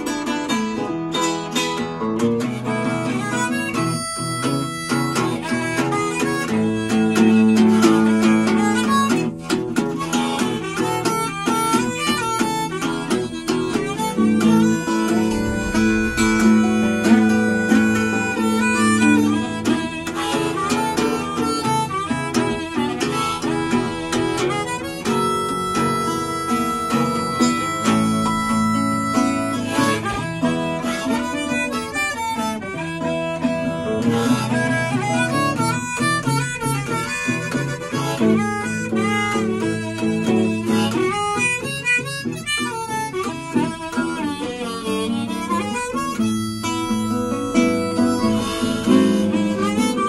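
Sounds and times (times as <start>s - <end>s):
acoustic guitar accompaniment: 0.0s - 50.0s
harmonica playing: 0.0s - 50.0s.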